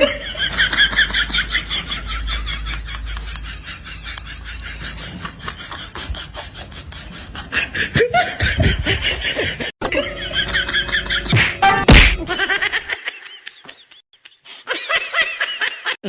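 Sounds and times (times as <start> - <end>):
people laughing: 0.0 - 11.5, 12.2 - 16.0.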